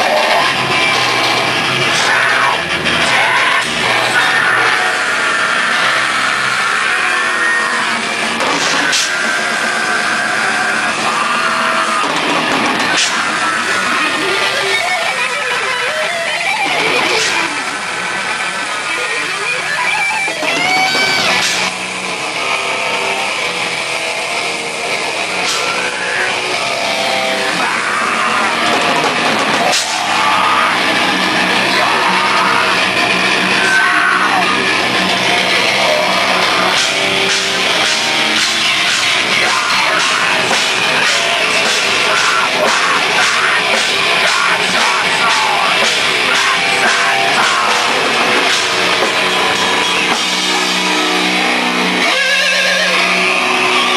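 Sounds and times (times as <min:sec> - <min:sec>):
electric guitars: 0:00.0 - 0:53.9.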